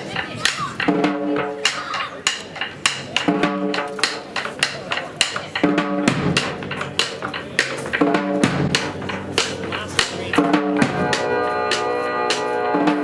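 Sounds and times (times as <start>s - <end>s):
drums in a fast pattern: 0.0s - 13.0s.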